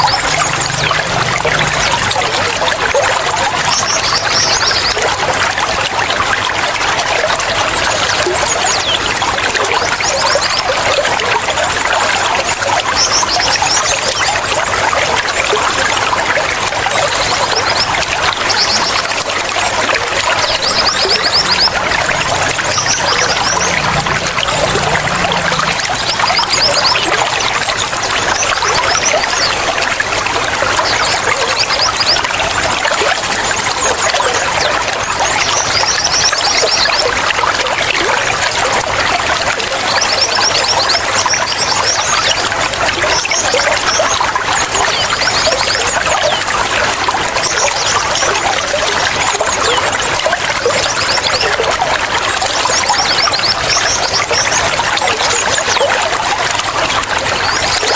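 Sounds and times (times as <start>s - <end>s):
running water trickling: 0.0s - 57.9s.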